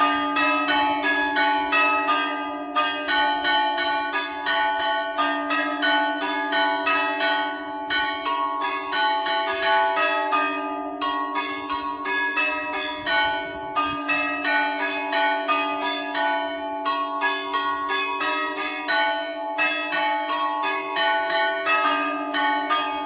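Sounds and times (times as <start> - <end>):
hum of large bells: 0.0 - 23.0.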